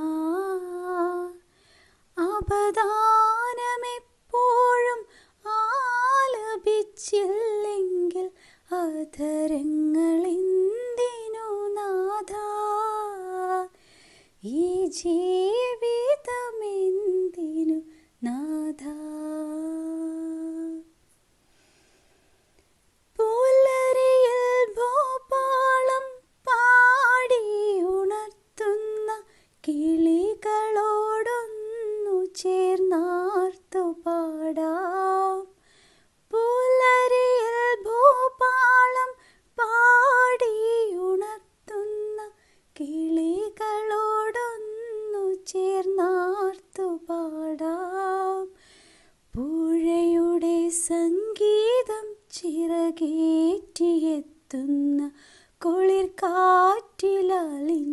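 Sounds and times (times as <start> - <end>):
woman singing unaccompanied: 0.0 - 1.5, 2.1 - 13.8, 14.4 - 20.9, 23.1 - 35.6, 36.3 - 48.6, 49.3 - 57.9.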